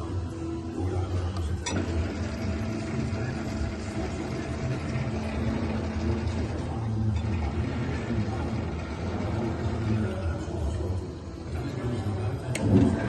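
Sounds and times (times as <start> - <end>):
thicknesser machine humming: 0.0 - 13.0.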